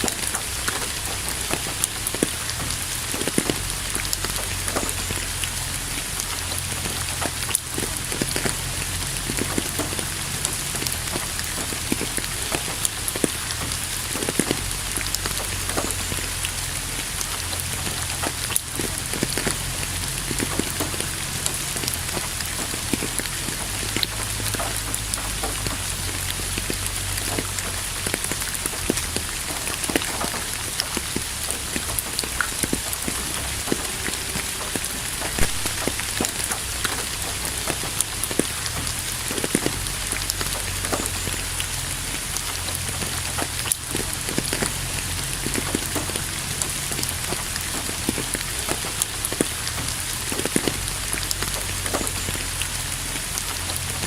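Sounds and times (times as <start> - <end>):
raindrops pattering: 0.0 - 54.0.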